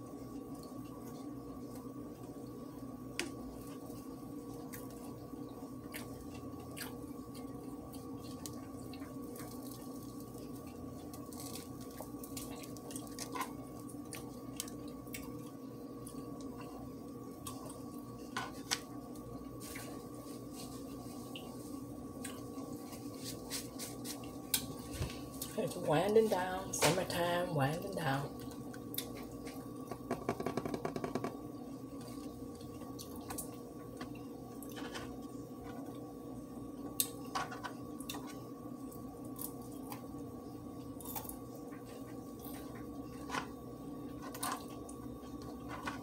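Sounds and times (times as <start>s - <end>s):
steady electrical hum: 0.0s - 46.0s
chewing crispy food: 0.2s - 25.6s, 28.3s - 30.1s, 31.8s - 46.0s.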